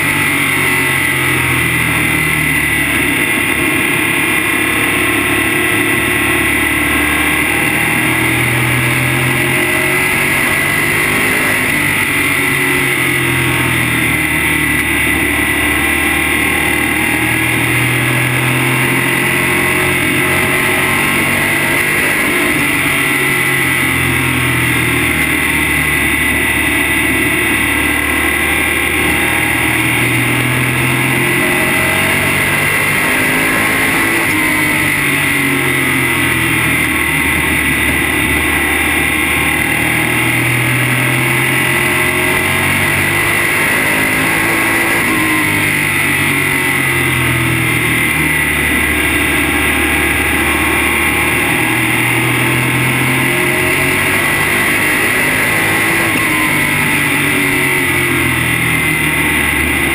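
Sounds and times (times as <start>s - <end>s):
race car engine at speed: 0.0s - 59.9s
road and wind noise: 0.0s - 59.9s.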